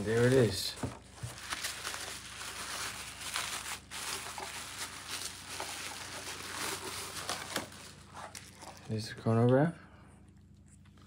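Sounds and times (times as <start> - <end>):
bubble wrap crinkling: 0.0 - 9.0.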